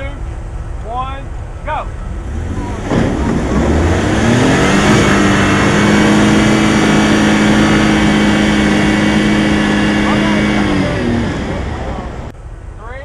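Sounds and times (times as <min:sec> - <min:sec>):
vehicle engine revving: 0:00.0 - 0:12.4.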